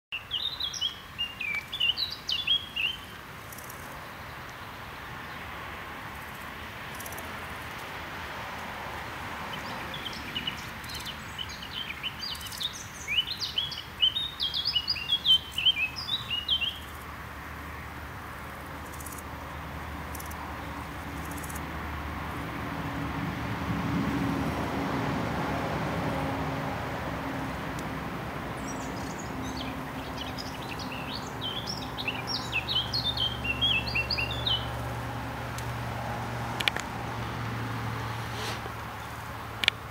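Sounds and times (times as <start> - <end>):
songbird chirping: 0.1 - 23.3, 24.2 - 39.9
outdoor background hiss: 0.1 - 39.9.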